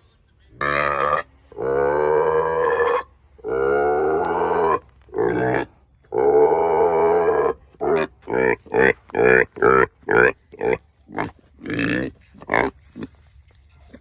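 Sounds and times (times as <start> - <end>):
pigs squealing: 0.6 - 13.2.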